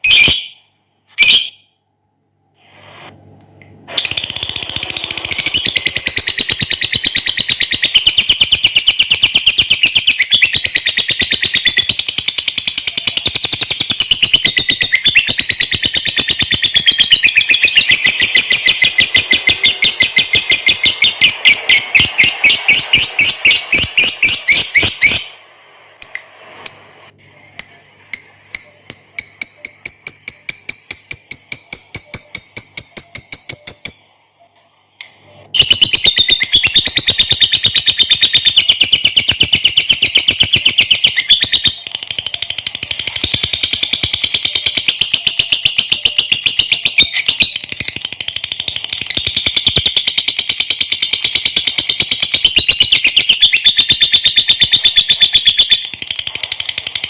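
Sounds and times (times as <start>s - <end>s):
lovebird chattering song: 4.0s - 25.4s, 26.0s - 34.1s, 35.6s - 57.0s.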